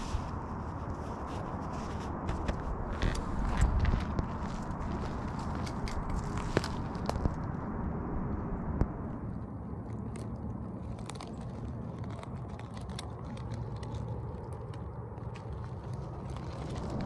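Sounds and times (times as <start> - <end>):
dry needles and twigs crackling: 0.0 - 7.7, 8.8 - 17.0
steady low rumble: 0.0 - 17.0.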